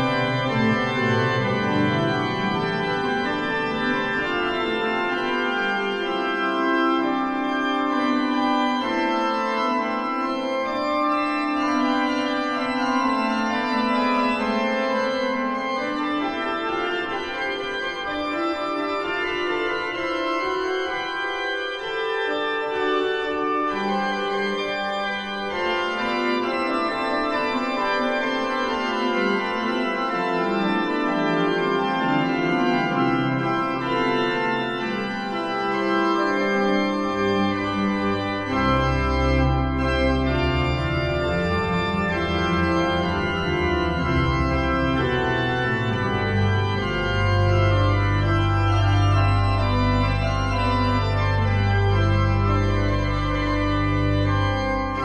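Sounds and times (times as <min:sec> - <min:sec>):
pipe organ music: 0:00.0 - 0:55.0.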